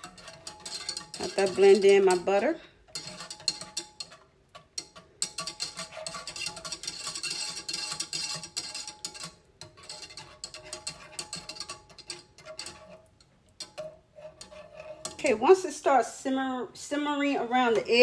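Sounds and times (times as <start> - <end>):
whisk scraping metal pan: 0.0 - 18.0.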